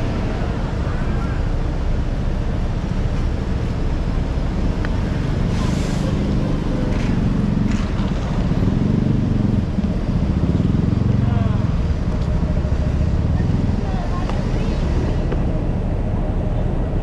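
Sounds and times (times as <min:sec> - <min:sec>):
vehicle engines running: 0:00.0 - 0:17.0.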